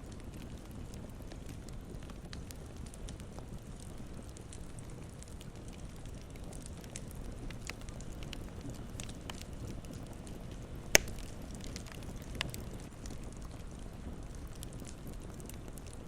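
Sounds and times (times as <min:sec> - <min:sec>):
campfire burning: 0:00.0 - 0:16.0
wood crackling and popping: 0:00.0 - 0:16.0.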